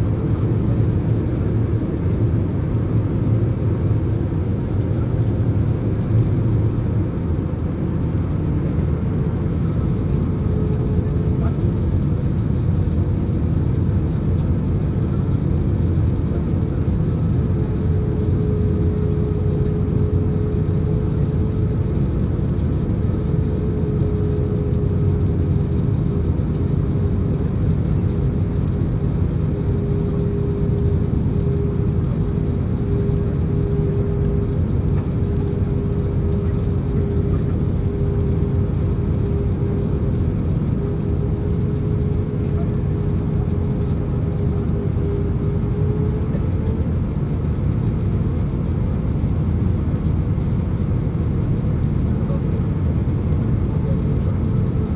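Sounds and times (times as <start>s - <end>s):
airplane cabin engine rush: 0.0s - 54.9s.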